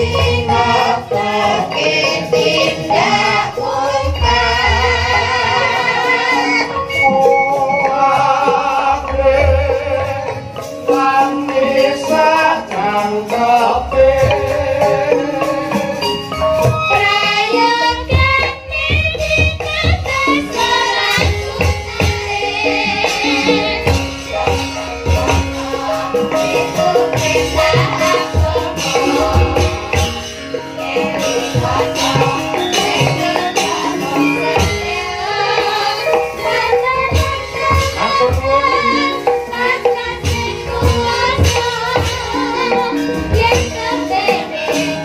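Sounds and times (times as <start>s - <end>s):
woman singing with vibrato: 0.0s - 16.0s, 16.8s - 24.6s, 25.2s - 45.0s
gamelan ensemble: 0.0s - 45.0s.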